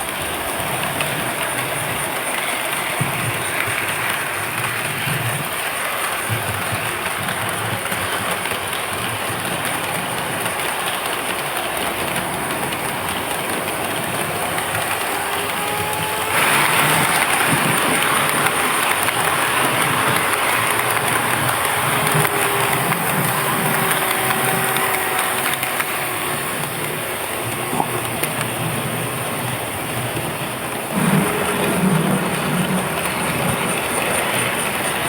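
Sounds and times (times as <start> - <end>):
model train rolling rumble: 0.0 - 35.0.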